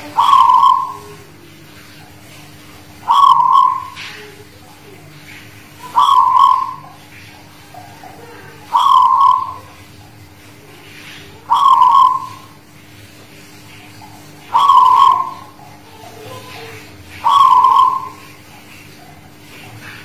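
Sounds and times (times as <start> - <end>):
dove cooing: 0.0 - 10.1, 10.8 - 12.8, 13.4 - 20.0.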